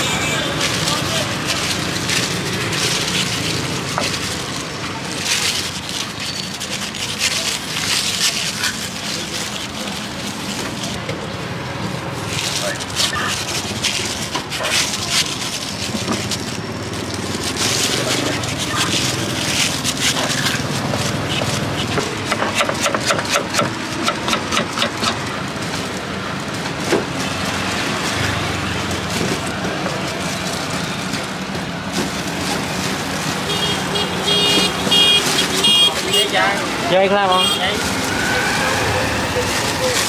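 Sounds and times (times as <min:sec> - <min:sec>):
faint voices: 0:00.0 - 0:40.0
street background noise: 0:00.0 - 0:40.0
utensils clattering and scraping: 0:00.0 - 0:40.0.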